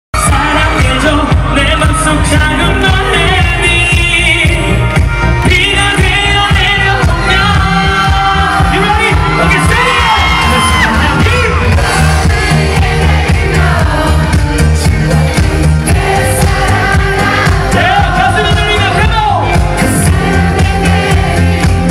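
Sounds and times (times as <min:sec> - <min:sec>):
man singing pop ballad: 0:00.2 - 0:11.8, 0:13.4 - 0:21.9
amplified backing music: 0:00.2 - 0:21.9.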